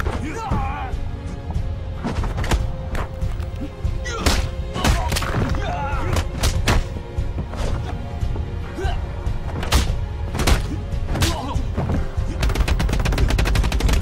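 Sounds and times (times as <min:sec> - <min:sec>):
film music score: 0:00.0 - 0:14.0.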